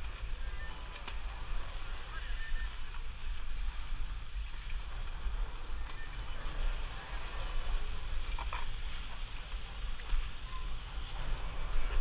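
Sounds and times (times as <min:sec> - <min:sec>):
steady hiss: 0:00.0 - 0:12.0
wind buffeting microphone: 0:00.0 - 0:12.0.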